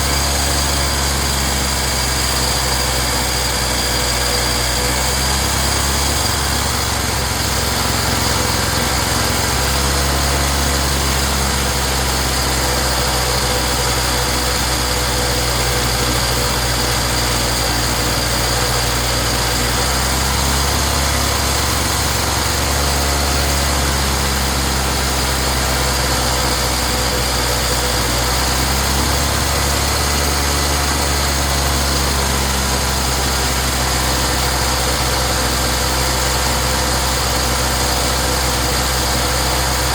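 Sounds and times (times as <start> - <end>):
generator engine humming: 0.0 - 39.9.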